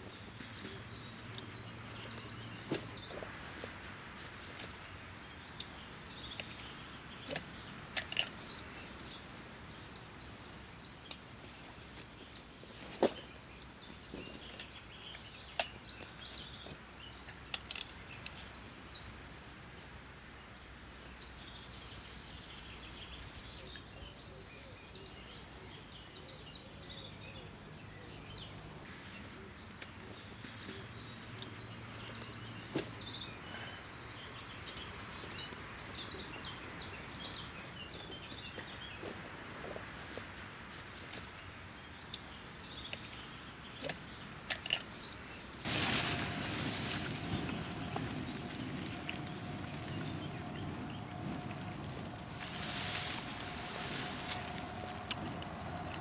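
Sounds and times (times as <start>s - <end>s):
songbirds trilling: 0.0s - 3.9s, 4.6s - 19.8s, 20.6s - 40.4s, 41.1s - 56.0s
steady outdoor hiss: 0.0s - 56.0s.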